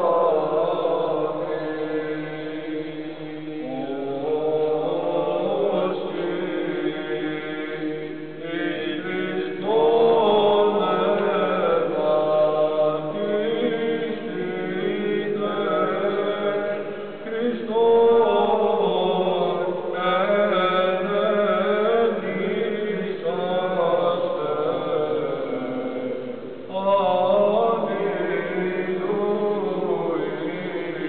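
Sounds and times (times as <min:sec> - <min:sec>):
voices chanting liturgically: 0:00.0 - 0:31.0.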